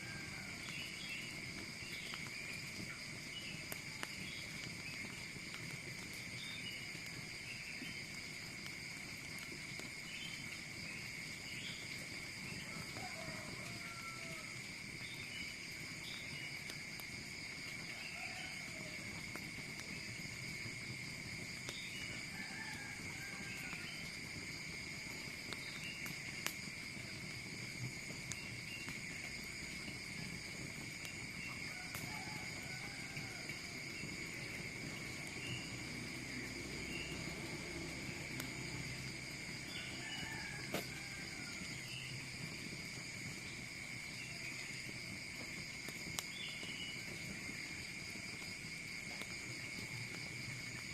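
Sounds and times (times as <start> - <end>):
insect chirping calls: 0.0 - 50.9
insects trilling: 0.0 - 50.9.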